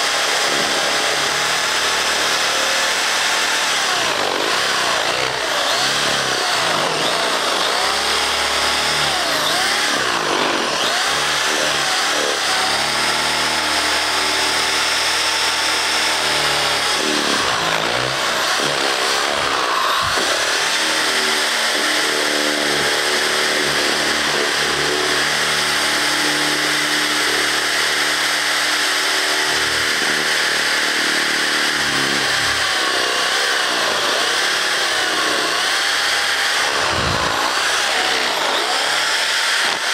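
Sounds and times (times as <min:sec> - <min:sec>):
power drill boring through paper: 0:00.0 - 0:39.9.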